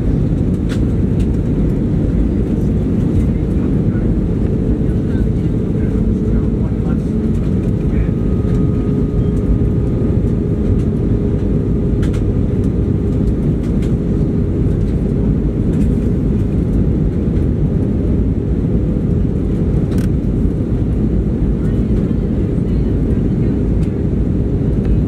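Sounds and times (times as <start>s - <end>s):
airflow rushing in plane cabin: 0.0s - 25.0s
jet engine noise: 0.0s - 25.0s
steady low hum: 0.0s - 25.0s.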